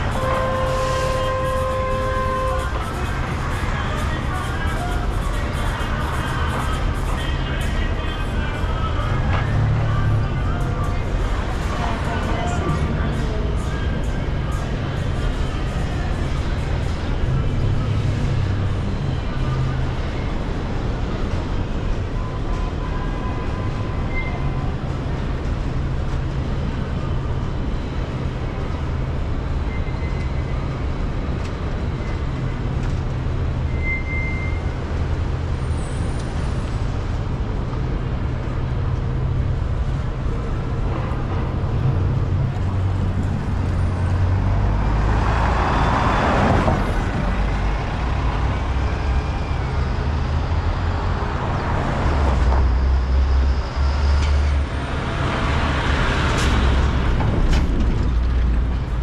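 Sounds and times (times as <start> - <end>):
vehicles passing by: 0.0 - 33.9, 34.6 - 59.0.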